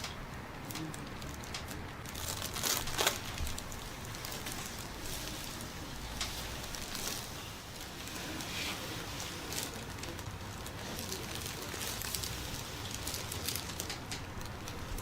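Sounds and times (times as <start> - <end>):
clothing rustling and crinkling: 0.0 - 15.0.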